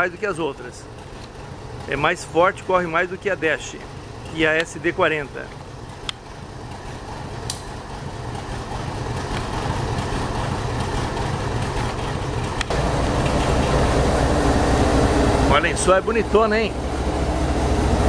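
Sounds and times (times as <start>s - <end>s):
diesel locomotive engines rumbling: 0.0s - 18.0s.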